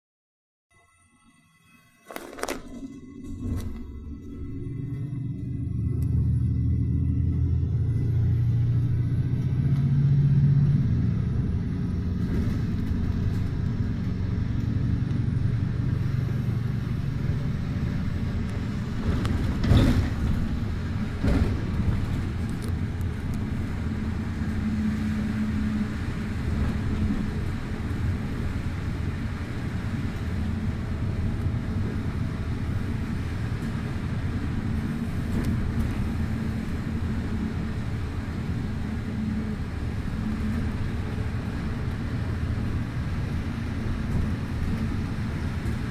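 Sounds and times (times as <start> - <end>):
bus engine and road rumble: 2.1 - 45.9.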